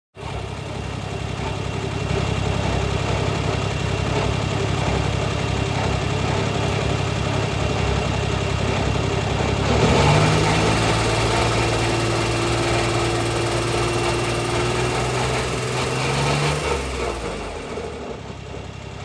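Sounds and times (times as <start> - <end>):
car engine mechanical drone: 0.2 - 19.0.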